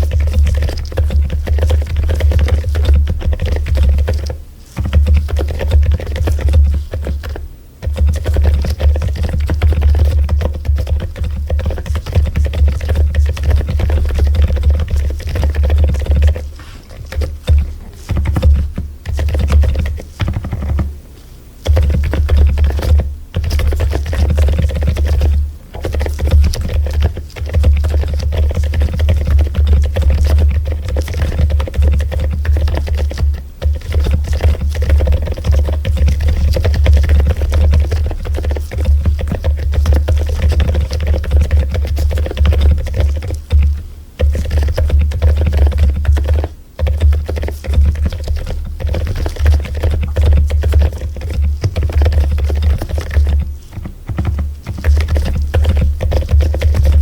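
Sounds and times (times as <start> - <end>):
mechanical keyboard typing: 0.0 - 20.9, 21.6 - 57.0.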